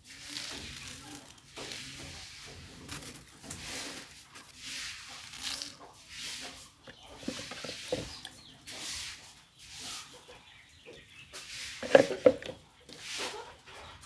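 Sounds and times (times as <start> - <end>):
feed pellets rustling on paper: 0.0 - 10.1, 11.3 - 13.4.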